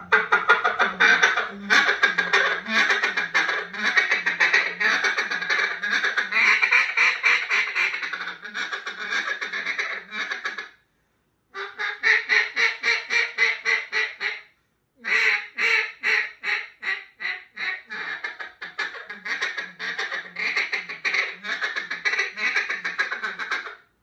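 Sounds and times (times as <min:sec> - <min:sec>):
duck call quacking: 0:00.0 - 0:10.7, 0:11.6 - 0:14.4, 0:15.0 - 0:23.8.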